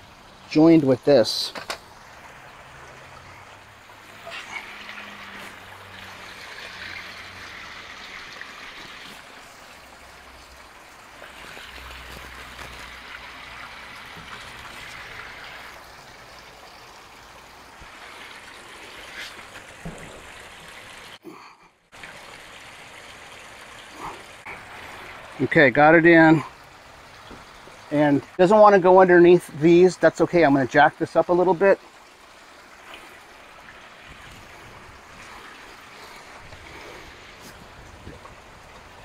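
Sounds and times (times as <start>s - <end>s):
trickling water: 0.0s - 39.0s.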